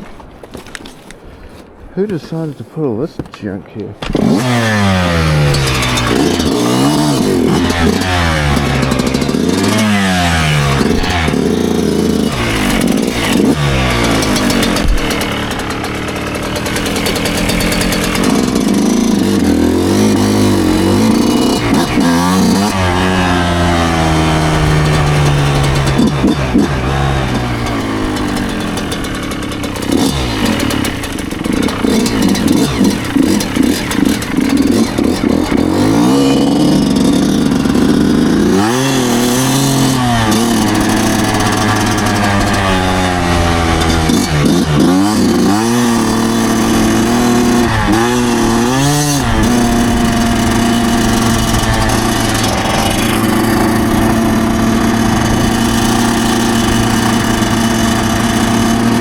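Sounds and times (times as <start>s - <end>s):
two-stroke engine revving: 4.0s - 59.0s.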